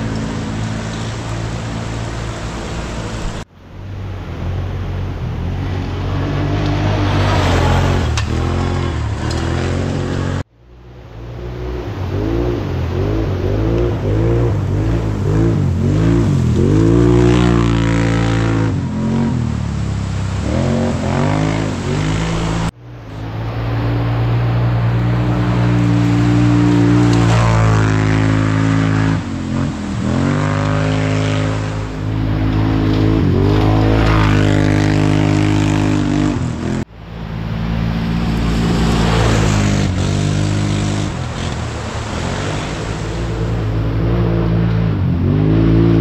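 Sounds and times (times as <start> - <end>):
racing engines revving hard: 5.7 - 10.5, 11.8 - 22.8, 23.5 - 36.9, 37.8 - 46.0.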